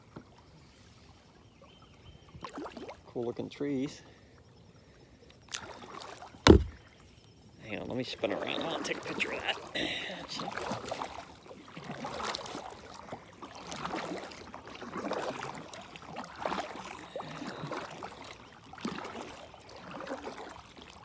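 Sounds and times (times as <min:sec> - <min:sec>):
paddle splashing water: 0:00.0 - 0:07.1, 0:07.7 - 0:21.0.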